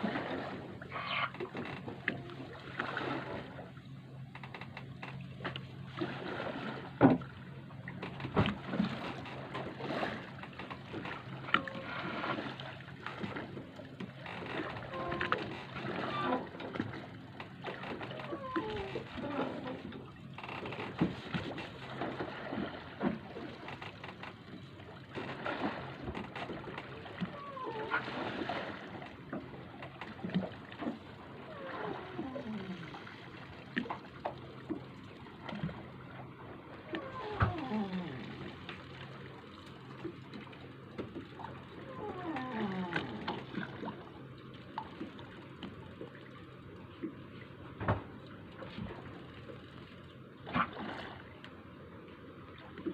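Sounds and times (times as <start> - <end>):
boat engine hum: 0.0 - 52.9
water slapping against hull: 0.0 - 52.9.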